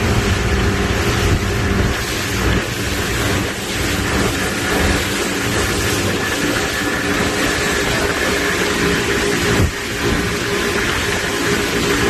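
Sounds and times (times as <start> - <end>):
boat engines humming: 0.0 - 12.0.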